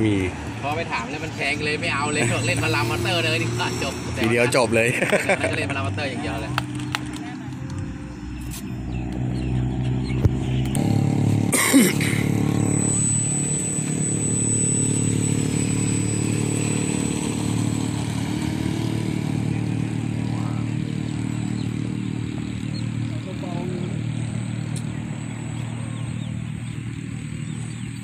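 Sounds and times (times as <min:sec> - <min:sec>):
model airplane engine and propeller: 0:00.0 - 0:28.0.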